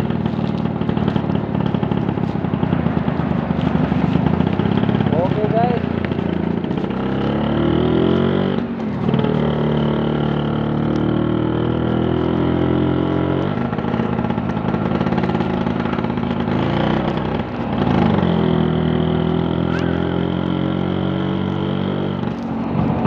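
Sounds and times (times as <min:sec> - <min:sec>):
scooter engine running: 0:00.0 - 0:23.0.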